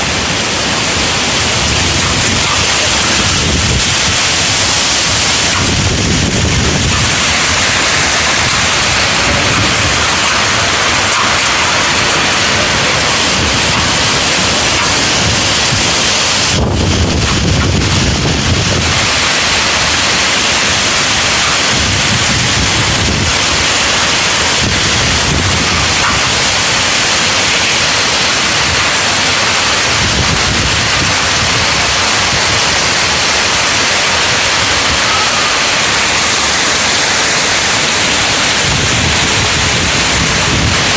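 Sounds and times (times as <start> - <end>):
hail pelting down: 0.0 - 40.9
wind gusts buffeting microphone: 0.0 - 40.9.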